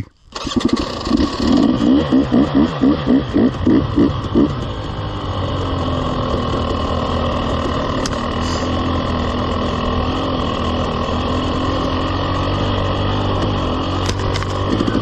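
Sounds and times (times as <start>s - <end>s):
dirt bike engine running: 0.3s - 15.0s.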